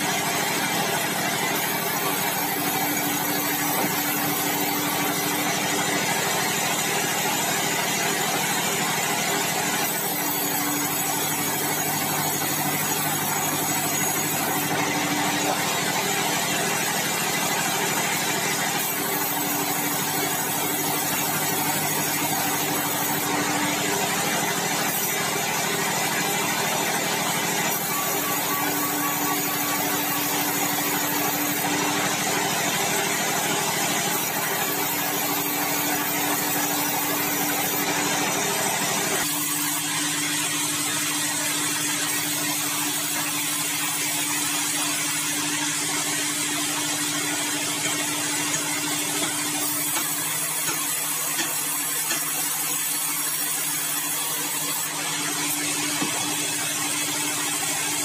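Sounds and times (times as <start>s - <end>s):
band saw cutting timber: 0.0s - 58.0s.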